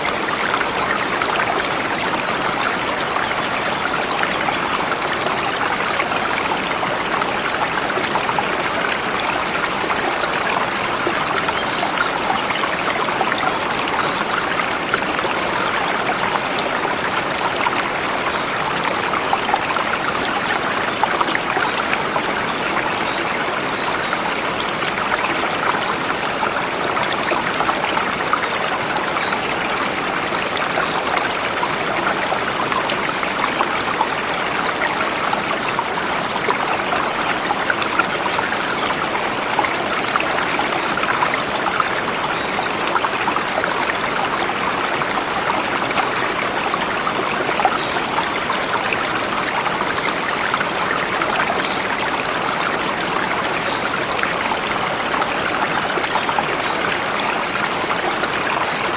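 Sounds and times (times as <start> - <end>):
river flowing over rocks: 0.0 - 58.9.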